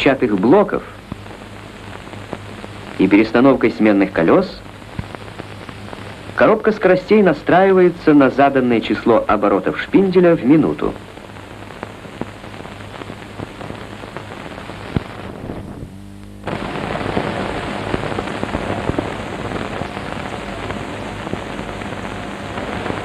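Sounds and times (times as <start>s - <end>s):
film soundtrack crackle and pops: 0.0s - 23.0s
low mains hum: 0.0s - 23.0s.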